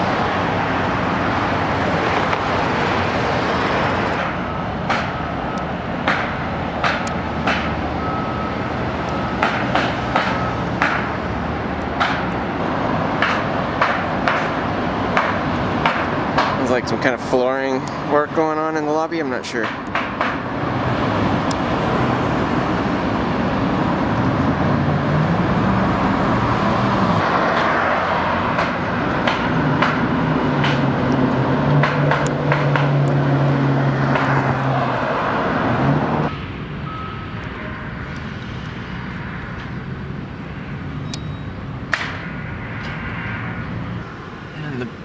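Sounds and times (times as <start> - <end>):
large vehicle engine humming: 0.0 - 45.0
street traffic: 0.0 - 45.0.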